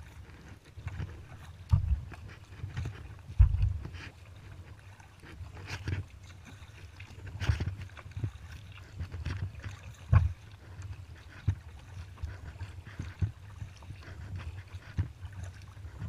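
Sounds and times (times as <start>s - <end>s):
kayak paddle splashes: 0.0s - 16.0s.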